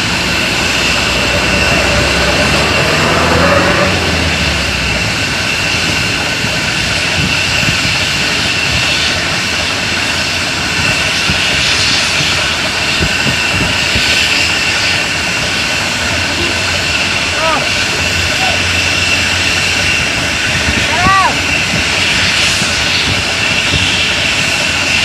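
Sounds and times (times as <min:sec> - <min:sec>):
constant high whine: 0:00.0 - 0:25.0
machine engine running: 0:00.0 - 0:25.0.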